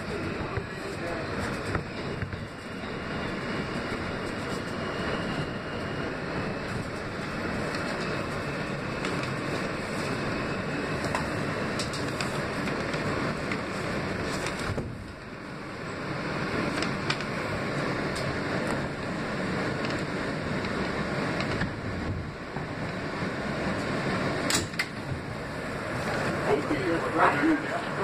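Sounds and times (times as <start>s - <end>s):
subway train wheels rumbling: 0.0s - 28.0s.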